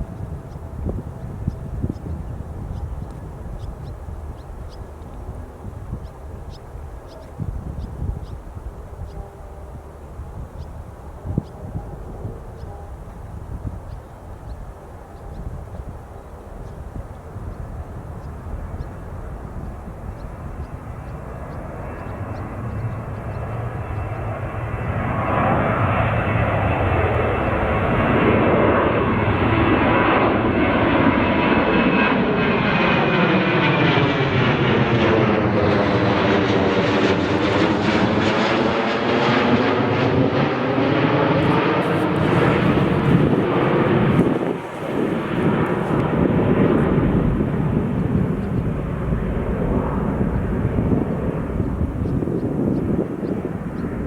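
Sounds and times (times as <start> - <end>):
jet engines passing overhead: 0.0 - 54.0.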